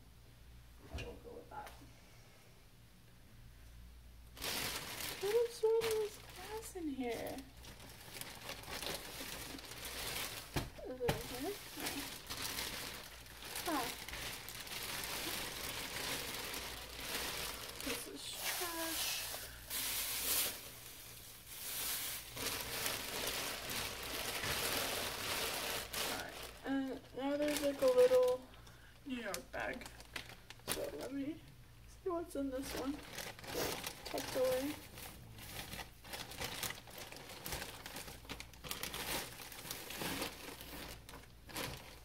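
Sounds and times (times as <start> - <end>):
plastic trash bag rustling: 4.3 - 31.4, 32.1 - 42.0.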